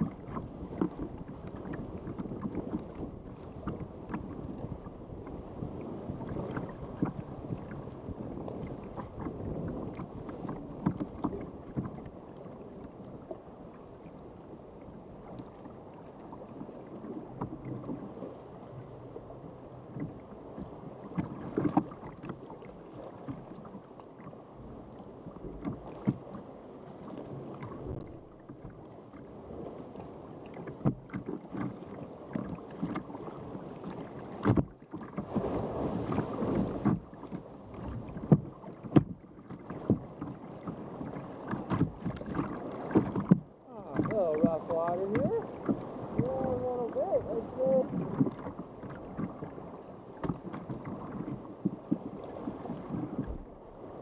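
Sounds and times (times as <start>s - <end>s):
rush of churning water: 0.0s - 54.0s
water lapping against kayak hull: 0.0s - 54.0s.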